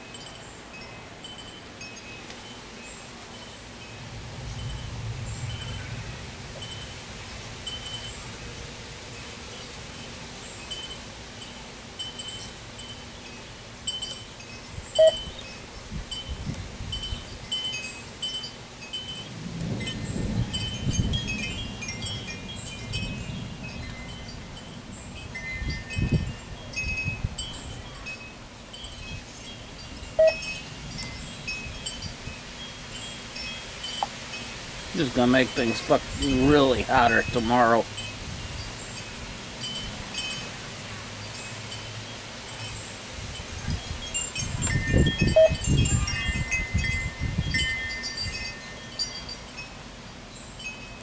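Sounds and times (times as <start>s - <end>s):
wind chimes tinkling: 0.0s - 51.0s.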